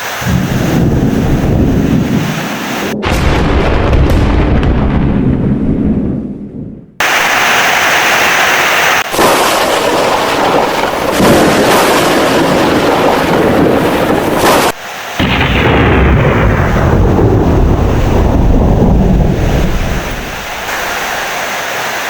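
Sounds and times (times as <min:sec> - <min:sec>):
heavy rain: 0:00.0 - 0:04.6, 0:07.0 - 0:22.0
rumbling thunder: 0:00.2 - 0:07.2, 0:09.1 - 0:20.7.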